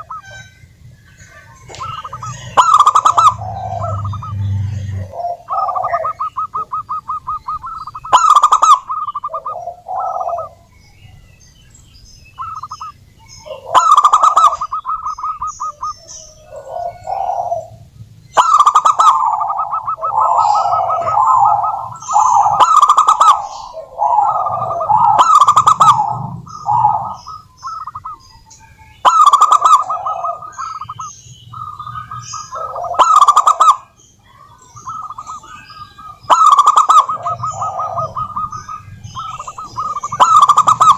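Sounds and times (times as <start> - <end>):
doves cooing: 0.0 - 11.3, 12.2 - 40.9.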